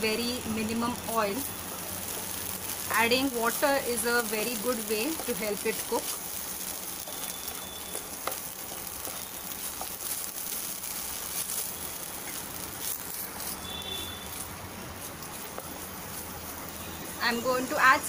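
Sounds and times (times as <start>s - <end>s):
faint crackles: 0.0s - 17.8s
paste sizzling in a pan: 0.0s - 18.0s.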